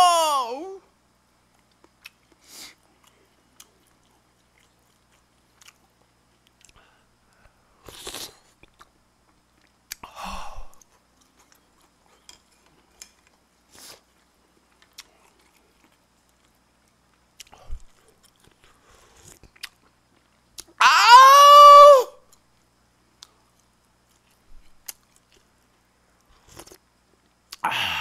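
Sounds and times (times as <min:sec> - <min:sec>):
chewing and eating noises: 0:01.5 - 0:10.0, 0:10.8 - 0:20.8, 0:23.1 - 0:27.6.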